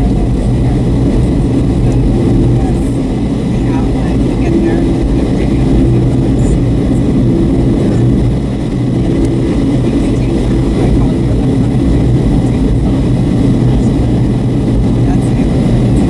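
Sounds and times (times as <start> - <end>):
aircraft engines and airflow rumble: 0.0 - 16.0
constant low hum: 0.0 - 16.0.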